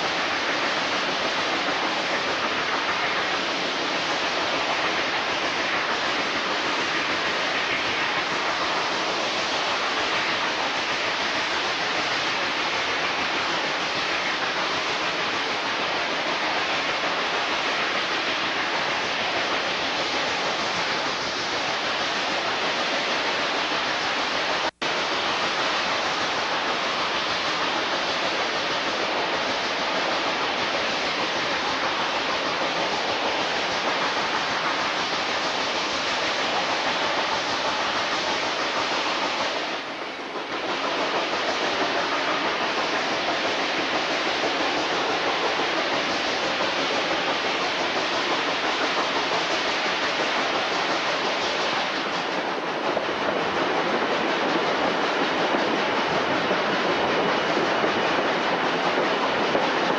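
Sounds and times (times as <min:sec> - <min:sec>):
steam train rushing: 0:00.0 - 0:59.9.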